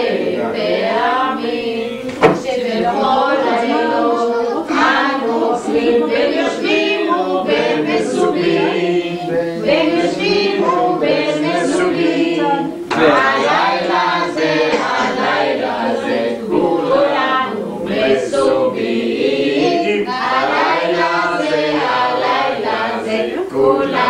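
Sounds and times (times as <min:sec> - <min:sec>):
group of people singing: 0:00.0 - 0:24.0.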